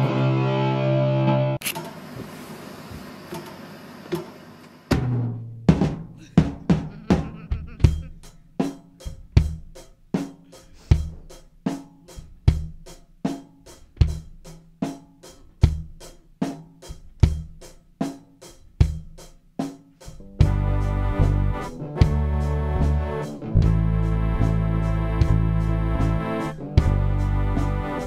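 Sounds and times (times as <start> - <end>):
rock drum kit beat: 4.9 - 28.0.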